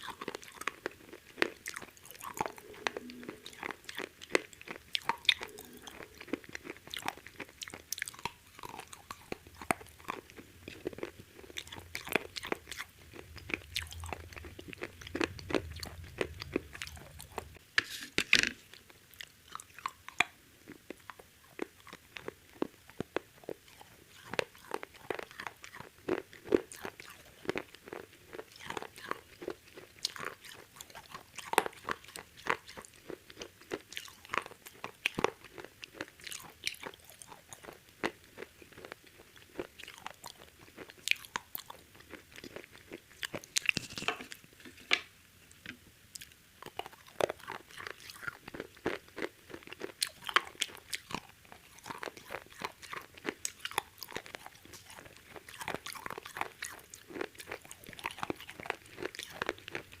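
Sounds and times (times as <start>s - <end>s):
fried chicken crunching: 0.0s - 45.1s, 46.2s - 60.0s.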